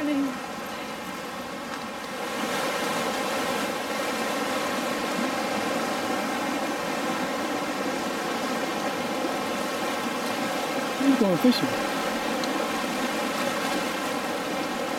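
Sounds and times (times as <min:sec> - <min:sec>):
river rushing: 0:00.0 - 0:14.9.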